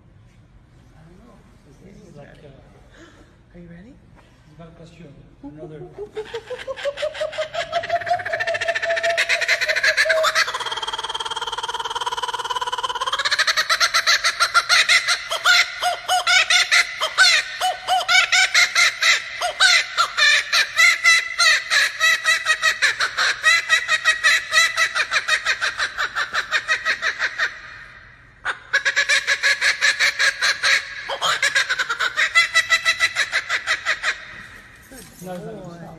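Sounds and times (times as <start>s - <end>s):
kookaburra laughing call: 5.6s - 35.1s.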